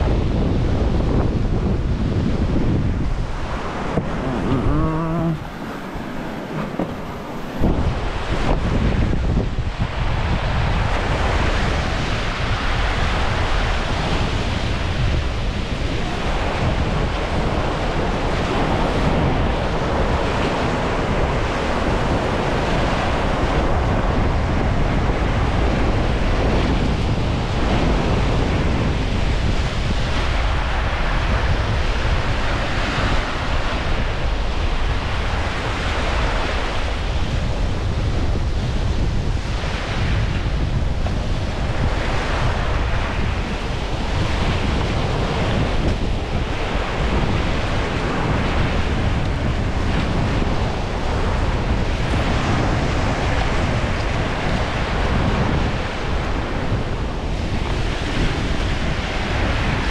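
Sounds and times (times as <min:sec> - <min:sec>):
strong wind on microphone: 0:00.0 - 0:59.9.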